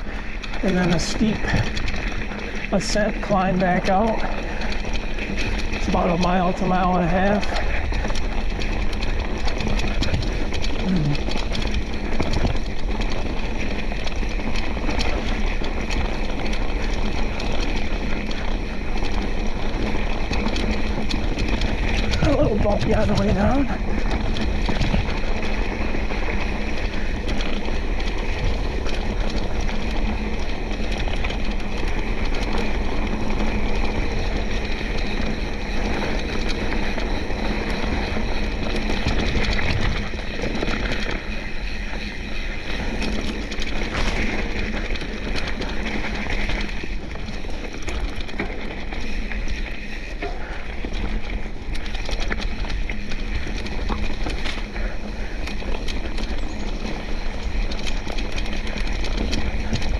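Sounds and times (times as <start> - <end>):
bike knocks and rattles: 0.0 - 59.9
bike tyres rolling on dirt: 0.0 - 59.9.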